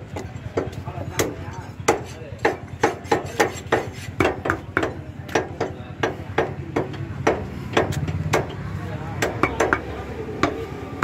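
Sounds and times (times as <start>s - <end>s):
cleaver chopping meat on wood: 0.0s - 11.0s.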